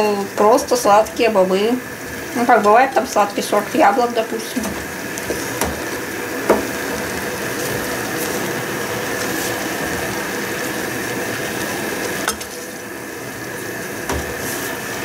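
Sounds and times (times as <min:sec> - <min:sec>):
beans sizzling in saucepan: 0:00.0 - 0:15.0
wooden spoon stirring: 0:00.0 - 0:15.0.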